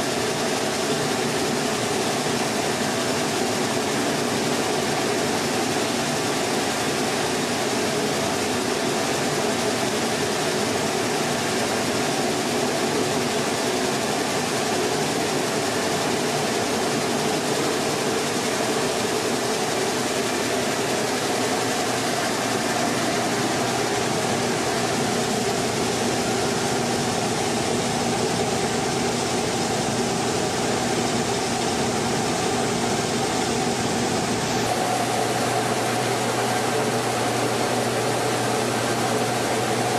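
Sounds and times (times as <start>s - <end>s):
rice mill machinery drone: 0.0s - 39.9s.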